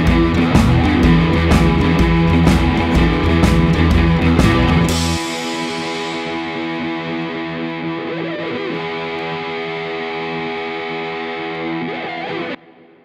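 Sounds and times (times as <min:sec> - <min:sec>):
guitar sustained chords: 0:00.0 - 0:13.0.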